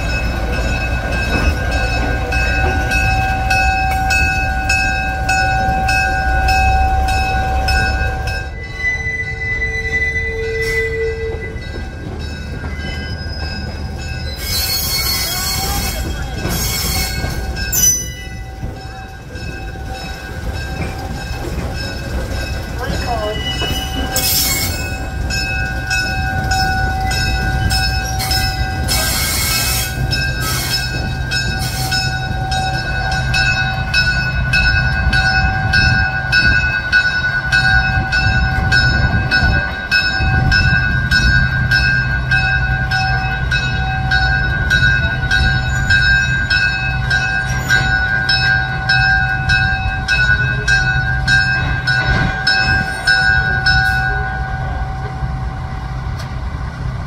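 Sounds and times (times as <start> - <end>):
locomotive bell ringing: 0.0 - 56.7.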